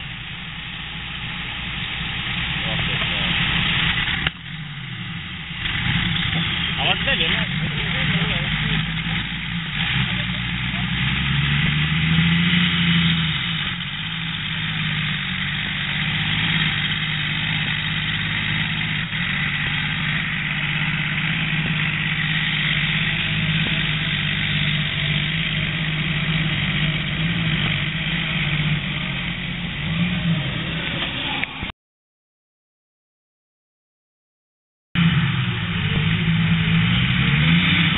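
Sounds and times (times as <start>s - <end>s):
tractor engine running under load: 0.0s - 31.7s, 35.0s - 37.9s.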